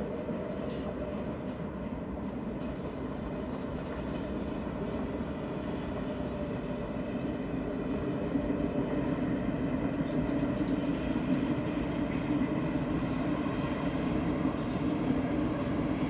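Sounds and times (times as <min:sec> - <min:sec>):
distant train wheels rumbling: 0:00.0 - 0:16.0.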